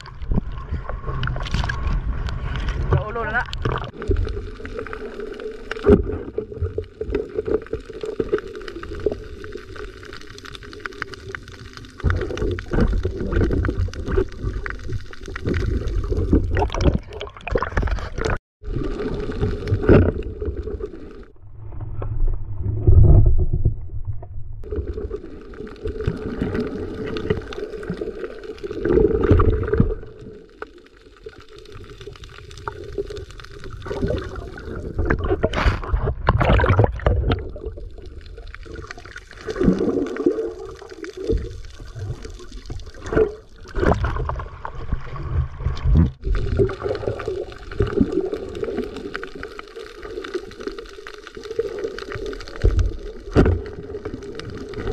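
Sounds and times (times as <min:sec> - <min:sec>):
muffled water sloshing and gurgling: 0:00.0 - 0:54.9.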